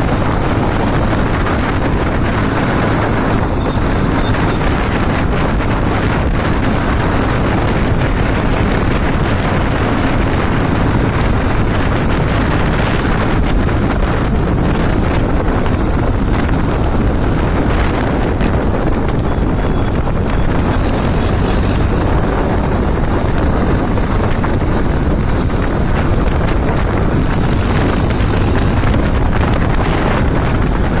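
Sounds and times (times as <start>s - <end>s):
tractor diesel engine running: 0.0s - 31.0s
wind buffeting microphone: 0.0s - 31.0s.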